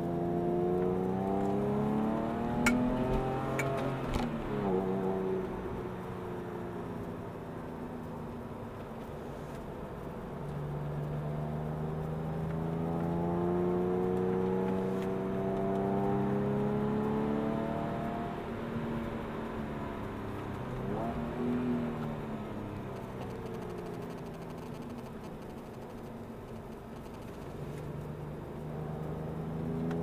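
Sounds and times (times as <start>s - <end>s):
car engine revving: 0.0s - 5.9s, 11.2s - 30.0s.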